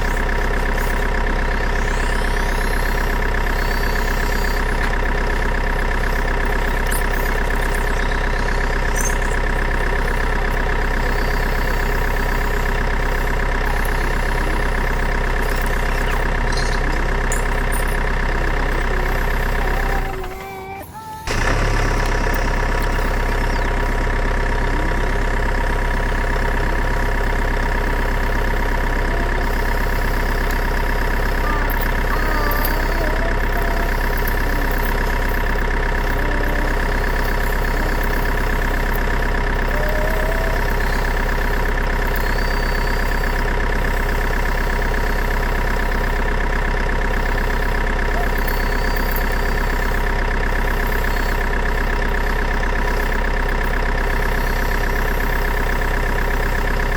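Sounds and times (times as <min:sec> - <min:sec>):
engine idling: 0:00.0 - 0:56.9.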